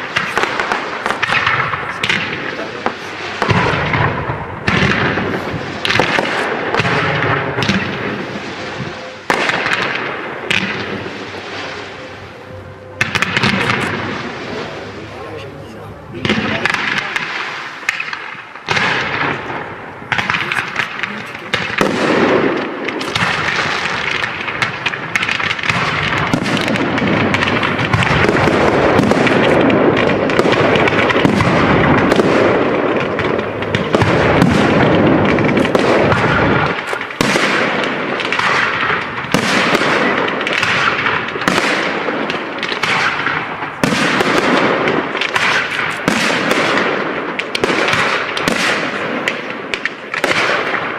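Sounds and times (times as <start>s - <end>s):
fireworks crackling and banging: 0.0s - 50.9s.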